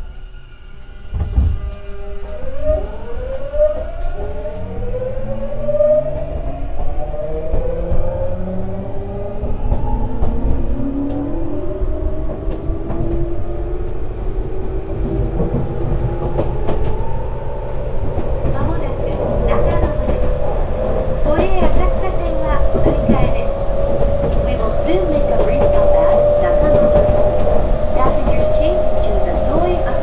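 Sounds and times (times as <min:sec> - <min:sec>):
wheels rumbling on rails: 0:00.0 - 0:30.0.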